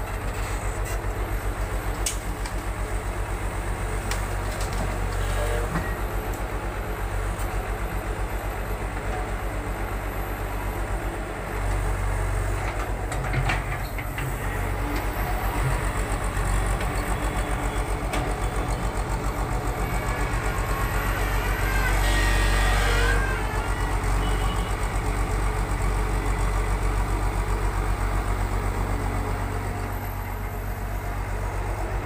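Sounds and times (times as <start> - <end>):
excavator diesel engine throbbing: 0.0 - 32.0.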